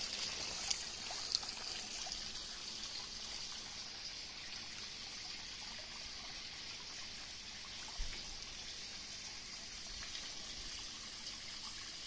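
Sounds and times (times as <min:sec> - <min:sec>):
water splashing into pond: 0:00.0 - 0:12.0.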